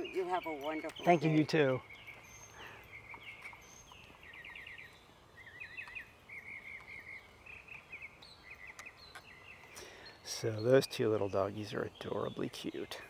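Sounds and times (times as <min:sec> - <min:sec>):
birds singing faintly: 0:00.0 - 0:13.0.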